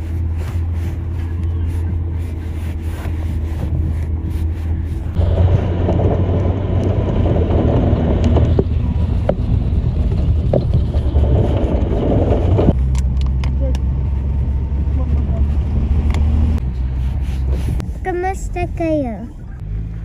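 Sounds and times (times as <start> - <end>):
tyres rumbling on snow: 0.0 - 20.0
vehicle engine drone: 0.0 - 20.0.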